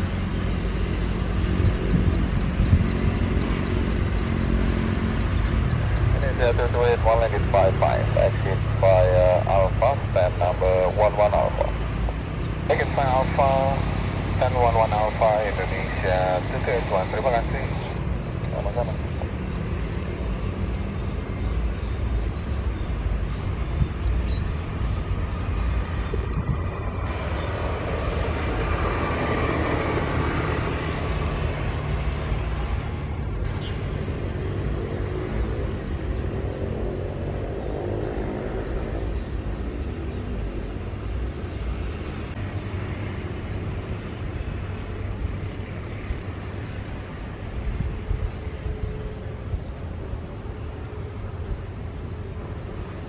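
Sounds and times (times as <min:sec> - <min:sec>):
jet engines roaring: 0:00.0 - 0:53.0.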